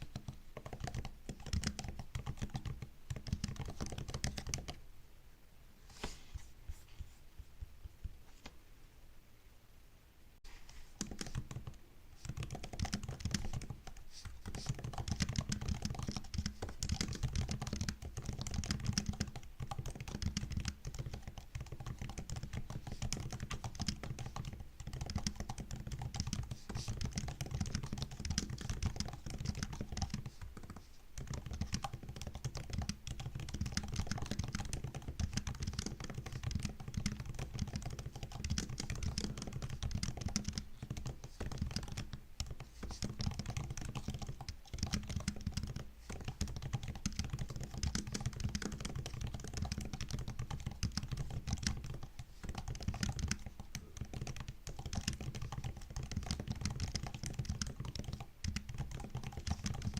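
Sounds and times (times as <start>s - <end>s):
laptop keyboard typing: 0.0s - 4.8s, 10.7s - 59.9s.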